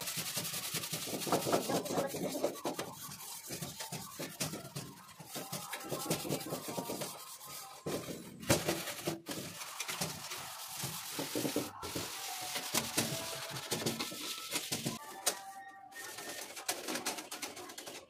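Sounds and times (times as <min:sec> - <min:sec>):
steel wool scrubbing metal: 0:00.0 - 0:15.0.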